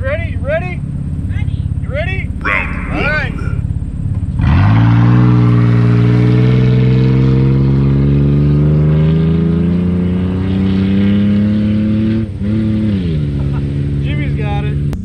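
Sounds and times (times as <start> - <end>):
engine at full throttle: 2.3 - 15.0.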